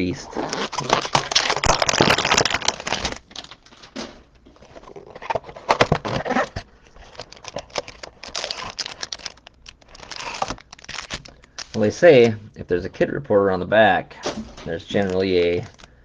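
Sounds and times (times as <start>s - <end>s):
card packaging crinkling and tearing: 0.4s - 12.3s, 14.9s - 16.0s.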